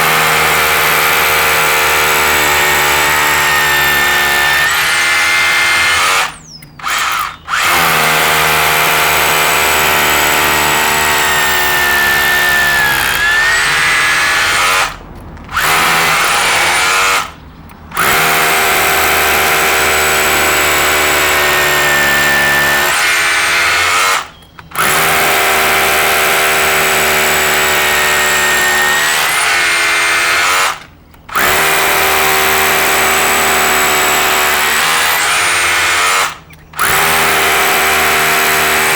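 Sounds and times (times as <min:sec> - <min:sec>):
electric drill boring into mortar: 0:00.0 - 0:38.9.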